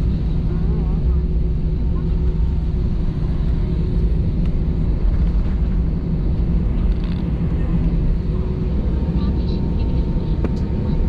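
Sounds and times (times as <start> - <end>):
jet engine low rumble: 0.0 - 11.0.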